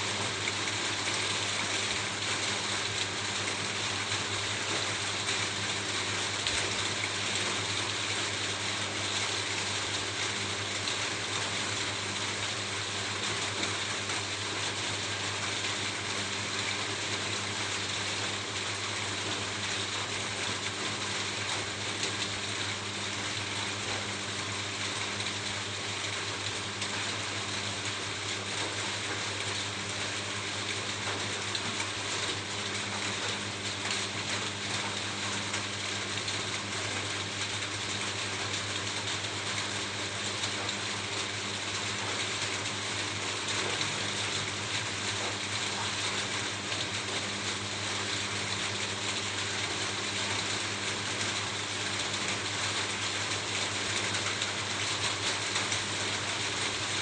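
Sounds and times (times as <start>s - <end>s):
rain pattering on a roof: 0.0s - 57.0s.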